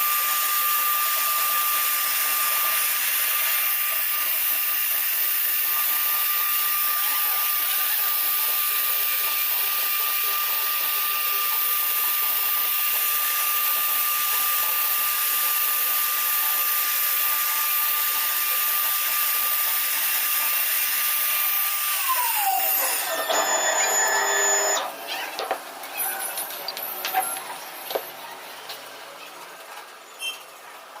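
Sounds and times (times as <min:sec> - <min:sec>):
router spindle whining: 0:00.0 - 0:25.0.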